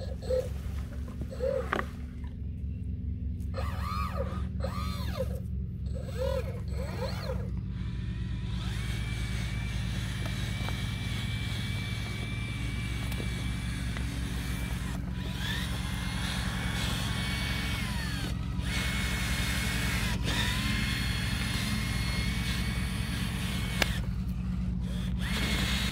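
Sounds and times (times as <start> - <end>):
low engine-like hum: 0.0 - 25.9
small electric motor whining: 0.0 - 25.9.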